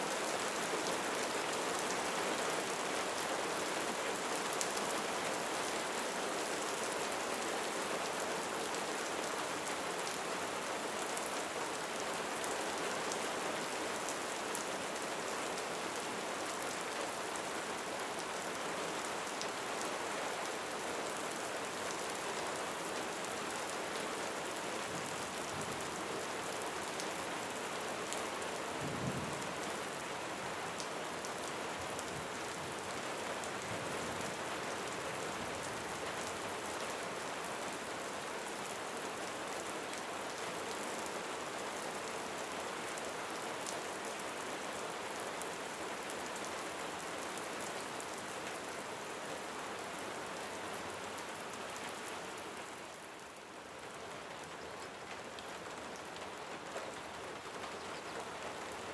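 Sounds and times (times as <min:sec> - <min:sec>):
rain falling on a roof: 0:00.0 - 0:58.9.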